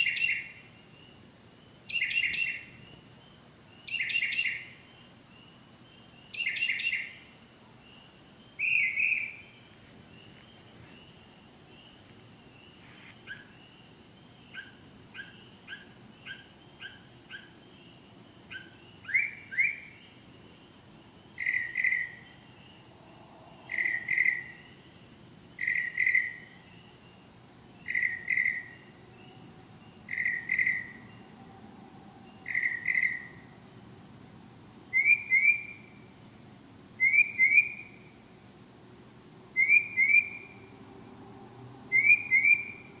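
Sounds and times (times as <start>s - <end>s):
bird singing whistled notes: 0.0s - 31.5s, 32.2s - 33.6s, 34.8s - 36.2s, 37.0s - 38.2s, 39.6s - 40.8s, 41.9s - 43.0s.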